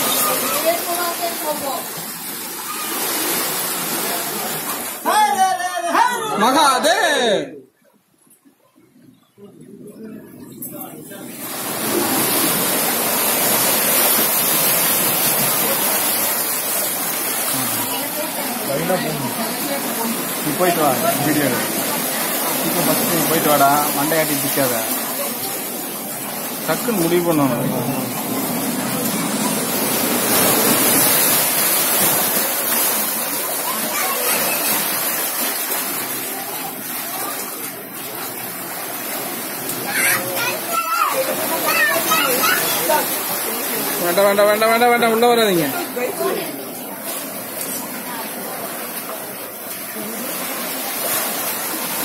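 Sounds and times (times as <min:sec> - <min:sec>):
waves rushing across stone floor: 0:00.0 - 0:06.1, 0:10.3 - 0:52.0.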